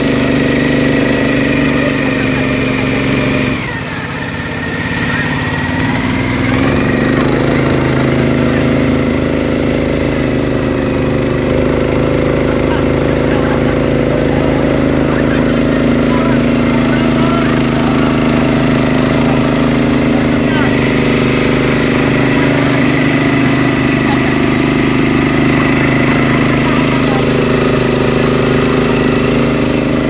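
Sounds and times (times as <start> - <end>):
motorboat engine running: 0.0 - 30.0.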